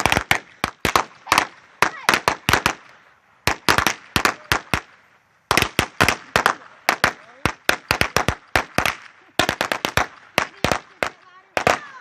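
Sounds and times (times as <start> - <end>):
firecrackers cracking: 0.0 - 12.0.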